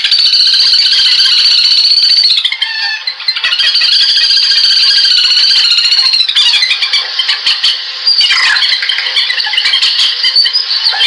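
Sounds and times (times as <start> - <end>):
shrill trilling bird call: 0.0 - 11.0.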